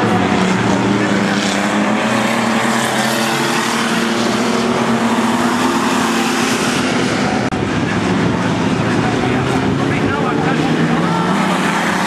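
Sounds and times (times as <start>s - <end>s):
stock car engines racing: 0.0s - 12.0s.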